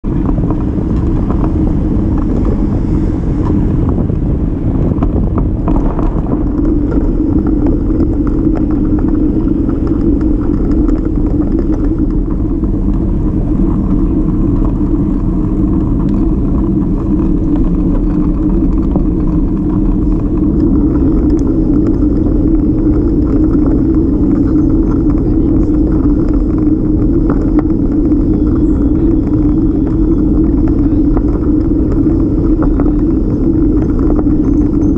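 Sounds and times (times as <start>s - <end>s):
bicycle rolling over brick paving: 0.1s - 34.9s.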